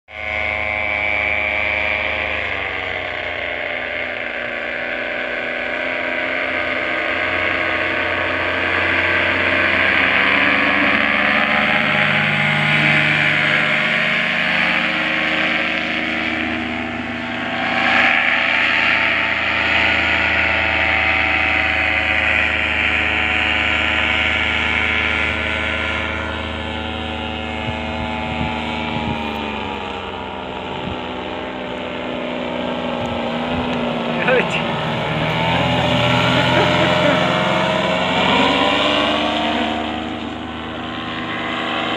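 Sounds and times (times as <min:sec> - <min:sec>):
paramotor engine droning: 0:00.0 - 0:41.9.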